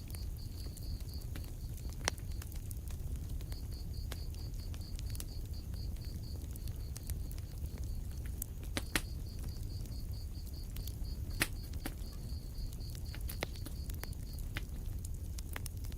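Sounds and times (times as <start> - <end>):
low rumble of flames: 0.0 - 15.9
sharp pops from fire: 0.0 - 15.9
wood fire crackling: 0.0 - 15.9.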